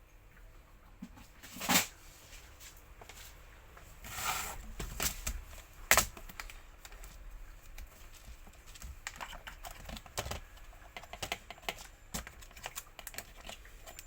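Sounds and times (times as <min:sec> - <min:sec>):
rustling of wires: 0:01.2 - 0:14.0.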